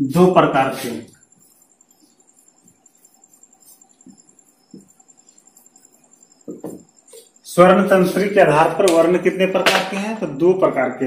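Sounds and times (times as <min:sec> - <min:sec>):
marker on a whiteboard: 0:00.0 - 0:09.9
insect chirring: 0:00.0 - 0:11.0.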